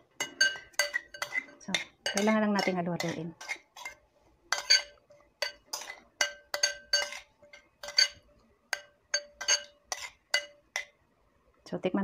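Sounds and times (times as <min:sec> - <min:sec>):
spoon clinking in ceramic bowl: 0:00.2 - 0:10.9.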